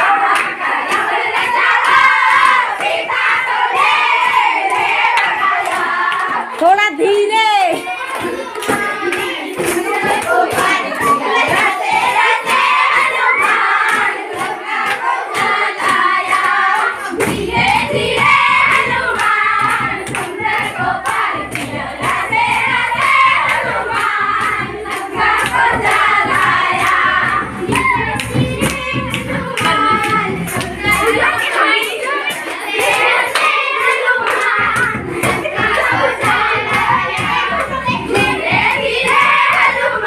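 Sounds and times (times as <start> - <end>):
girls singing together: 0.0 - 40.0
hands clapping to a beat: 0.0 - 40.0.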